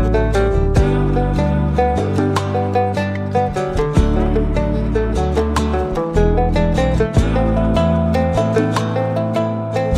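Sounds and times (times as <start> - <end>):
low musical accompaniment: 0.0 - 9.9
plucked string melody: 0.0 - 9.9.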